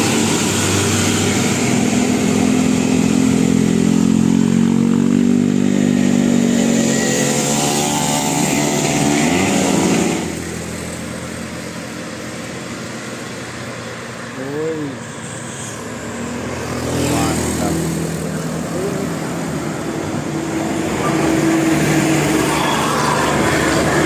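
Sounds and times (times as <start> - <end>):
bus engine revving: 0.0 - 24.0.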